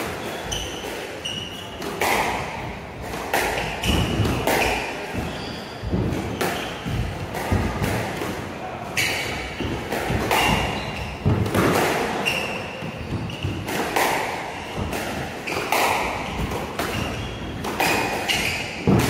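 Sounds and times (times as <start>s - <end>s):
squash ball hits: 0.0s - 19.0s
shoes squeaking on wooden floor: 0.2s - 2.7s, 3.6s - 7.8s, 9.0s - 11.5s, 12.2s - 13.8s, 14.5s - 19.0s.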